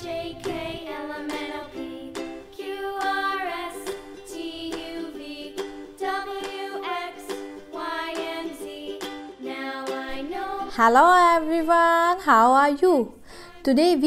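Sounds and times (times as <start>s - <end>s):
plucked-string children's tune: 0.0s - 11.8s.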